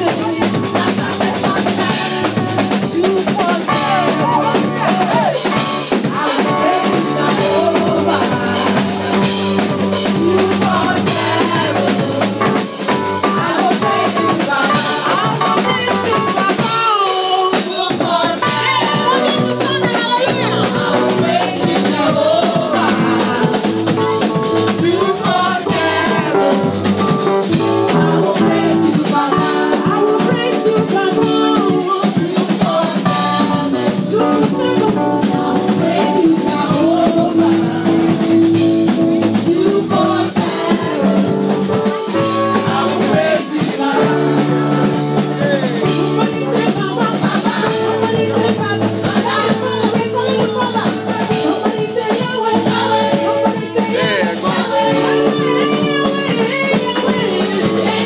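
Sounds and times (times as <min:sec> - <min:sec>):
drum kit beat: 0:00.0 - 0:58.0.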